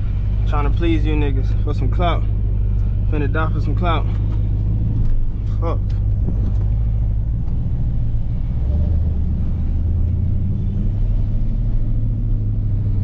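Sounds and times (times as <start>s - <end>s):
car engine droning from inside: 0.0s - 13.0s.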